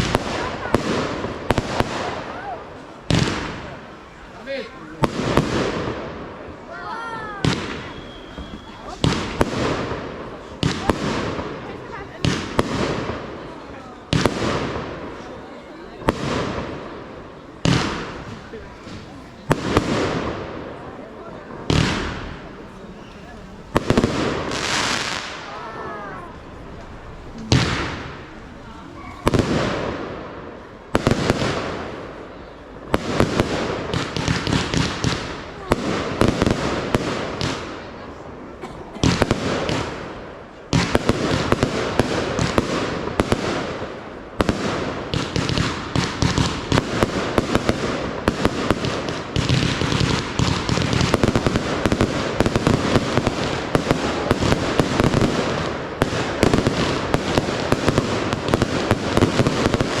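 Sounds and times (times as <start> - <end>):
fireworks bangs and crackling: 0.0 - 60.0.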